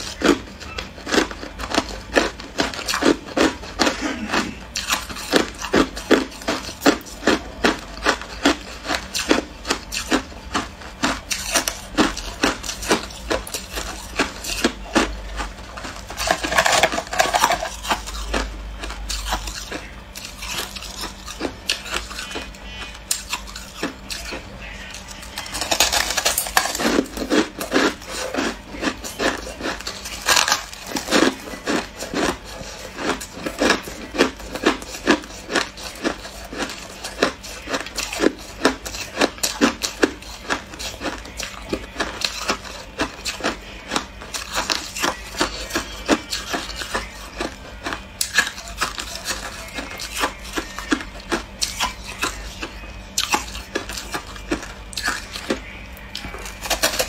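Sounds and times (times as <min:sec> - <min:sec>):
ice crunched between teeth: 0:00.0 - 0:22.5, 0:23.1 - 0:57.0.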